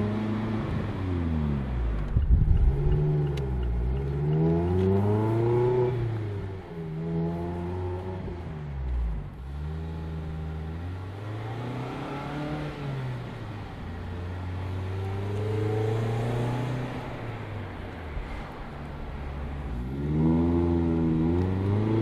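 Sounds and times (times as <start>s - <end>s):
car engine and exhaust driving: 0.0s - 22.0s.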